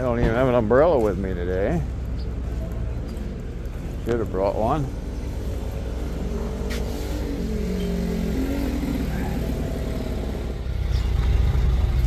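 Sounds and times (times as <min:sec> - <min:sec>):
vehicle engine running: 0:02.0 - 0:12.0.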